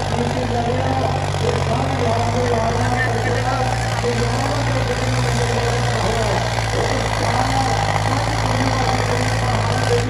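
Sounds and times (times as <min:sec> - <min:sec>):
tractor engines droning: 0:00.0 - 0:10.0.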